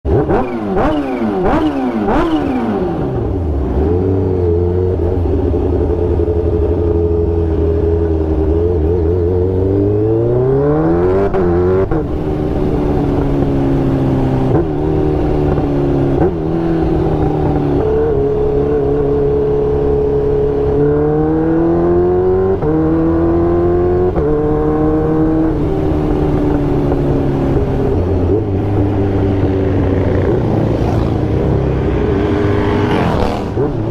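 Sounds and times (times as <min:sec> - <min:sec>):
motorcycle engine running hard: 0:00.1 - 0:33.9.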